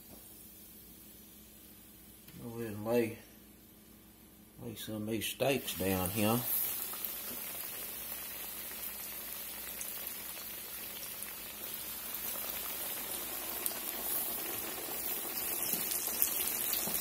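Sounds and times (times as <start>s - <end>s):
oil sizzling and crackling: 0.0s - 2.3s, 5.4s - 17.0s.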